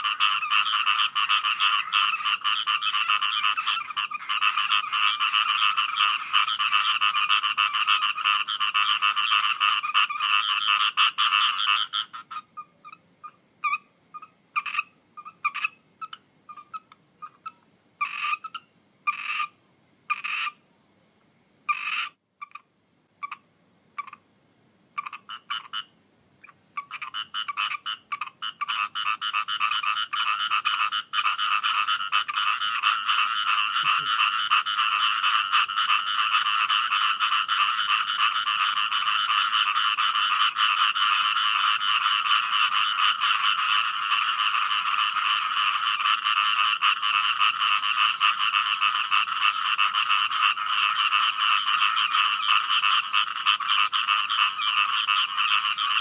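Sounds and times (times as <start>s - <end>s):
frogs croaking: 0.0s - 56.0s.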